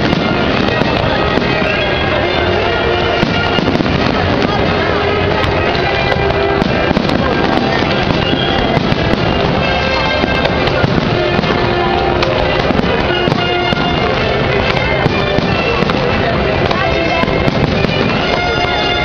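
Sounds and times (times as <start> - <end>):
fireworks crackling and popping: 0.0 - 19.0
loud music: 0.0 - 19.0.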